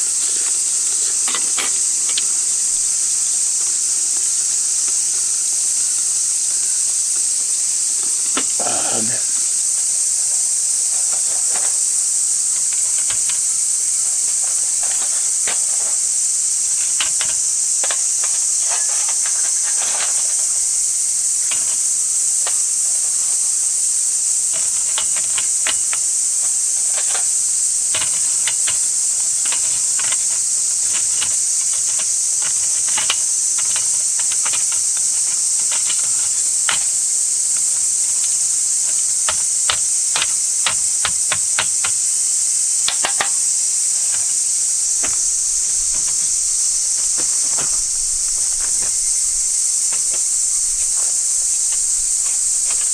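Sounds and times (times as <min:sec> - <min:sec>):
irregular crackles: 0:00.0 - 0:02.4, 0:10.9 - 0:52.9
cicadas droning: 0:00.0 - 0:52.9.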